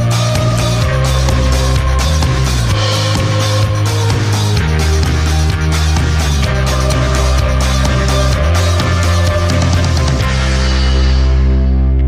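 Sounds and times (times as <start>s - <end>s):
instrumental music with heavy bass: 0.0s - 12.0s.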